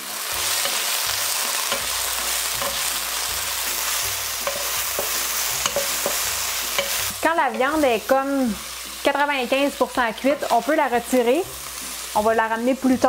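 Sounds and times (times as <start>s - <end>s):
beef sizzling in hot oil: 0.0s - 13.0s.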